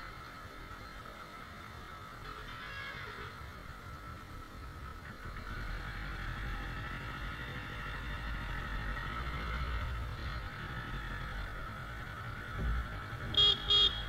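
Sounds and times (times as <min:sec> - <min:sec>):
motorcycle engine: 0:00.0 - 0:14.0
road noise: 0:00.0 - 0:14.0.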